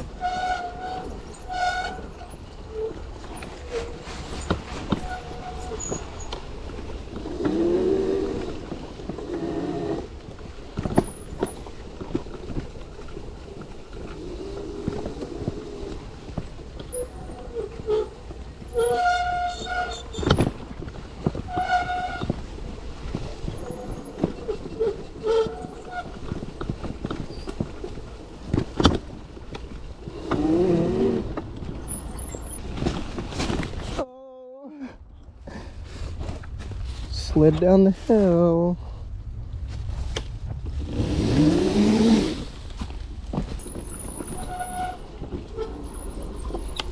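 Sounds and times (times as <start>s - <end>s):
bike knocking and rattling: 0.0s - 34.0s, 41.9s - 46.9s
wind and tyre noise: 0.0s - 34.1s, 35.0s - 46.9s.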